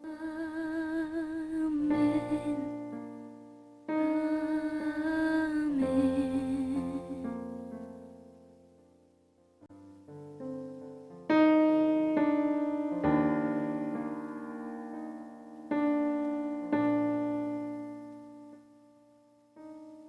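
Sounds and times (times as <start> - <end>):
electric piano chords: 0.0 - 20.0.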